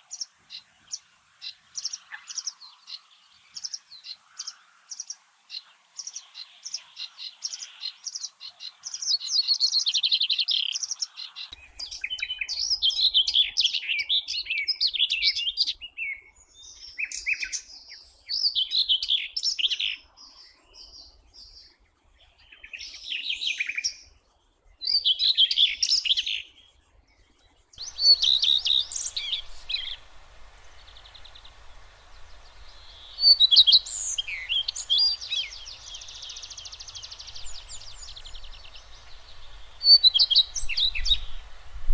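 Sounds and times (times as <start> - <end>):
faint steady hiss: 0.0 - 41.9
songbird singing: 0.0 - 41.9.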